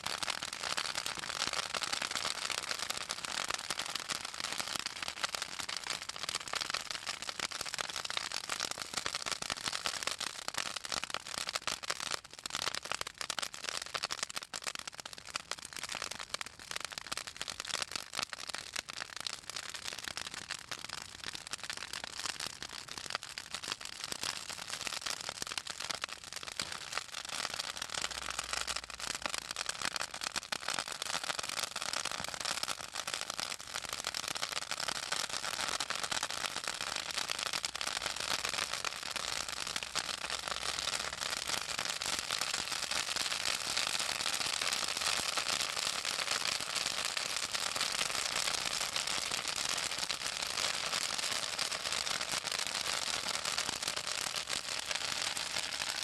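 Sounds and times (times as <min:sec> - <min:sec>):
bonfire crackling and popping: 0:00.0 - 0:56.0.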